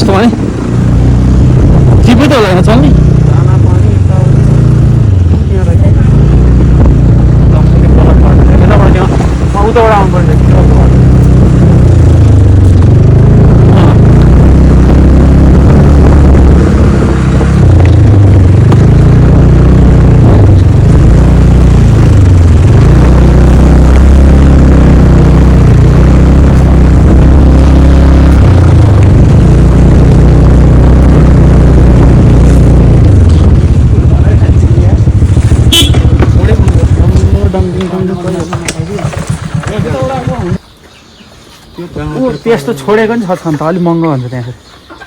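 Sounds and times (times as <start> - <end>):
vehicle engine running: 0.0 - 40.7.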